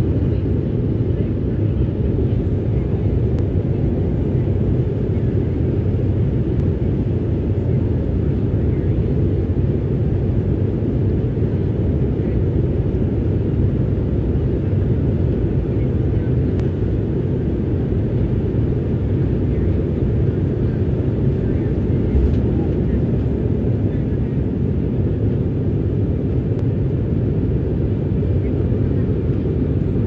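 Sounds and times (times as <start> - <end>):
jet engines rumbling in cabin: 0.0 - 30.0.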